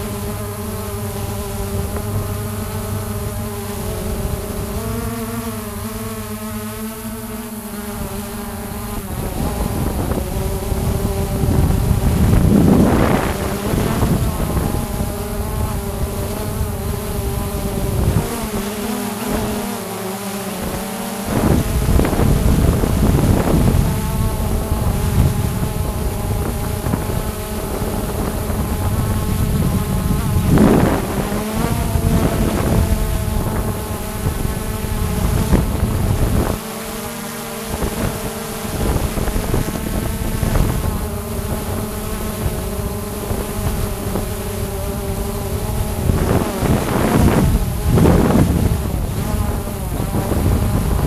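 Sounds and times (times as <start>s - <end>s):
drone propellers whining: 0.0s - 51.0s
wind rumbling on microphone: 0.0s - 51.0s.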